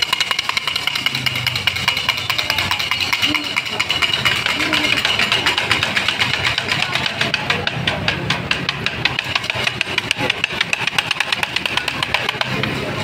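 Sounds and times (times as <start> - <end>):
motorcycle engine idling: 0.0 - 12.7
rapid even ticking: 0.0 - 13.0.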